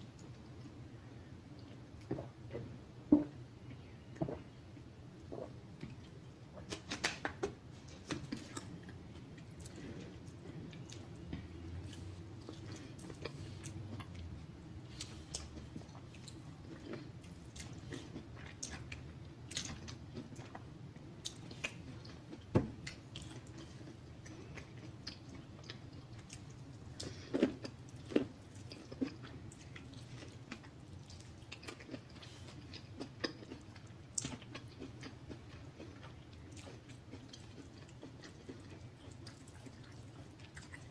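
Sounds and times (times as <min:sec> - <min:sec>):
chewing with wet mouth smacks: 0:05.3 - 0:40.9.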